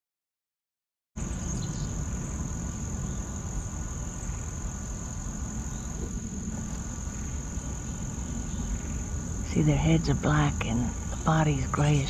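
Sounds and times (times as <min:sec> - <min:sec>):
constant low rumble: 0:01.2 - 0:12.0
insects droning: 0:01.2 - 0:12.0.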